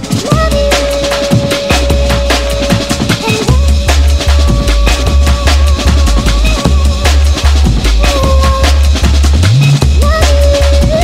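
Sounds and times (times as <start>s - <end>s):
deep sub-bass: 0.0s - 11.0s
fast breakbeat drums: 0.0s - 11.0s.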